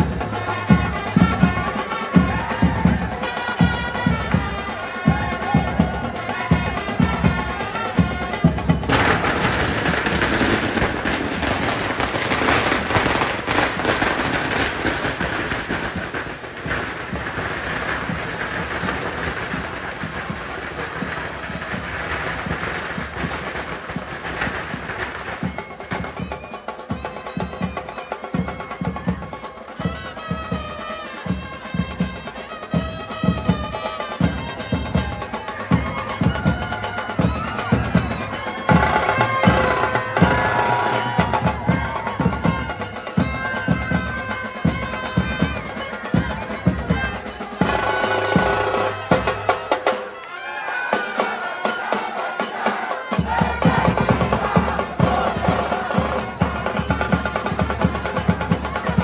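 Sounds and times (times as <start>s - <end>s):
brass band with drums: 0.0s - 59.0s
drum beats: 0.0s - 59.0s
trumpet melody: 0.0s - 59.0s.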